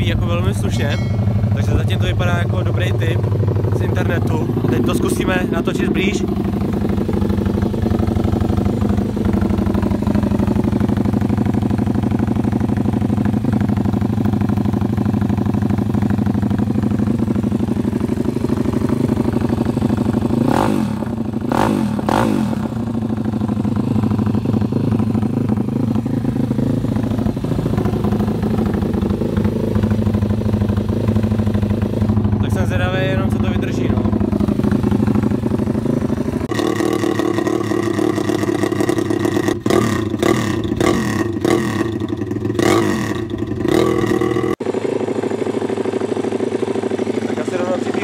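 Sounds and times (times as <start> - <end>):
engine throttle blips: 0.0 - 48.0
motorbike engine idling: 0.0 - 48.0.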